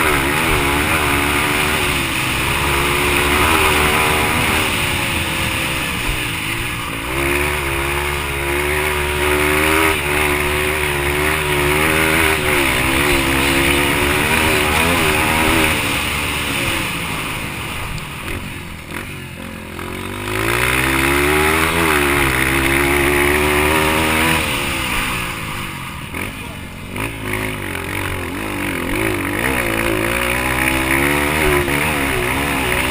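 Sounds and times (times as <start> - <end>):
dirt bike engine revving: 0.0 - 32.9
steady rushing noise: 0.0 - 32.9.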